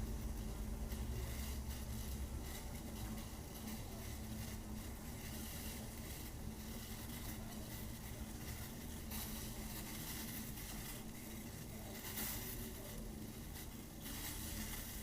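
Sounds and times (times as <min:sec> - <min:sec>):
pot of water boiling: 0:00.0 - 0:15.0.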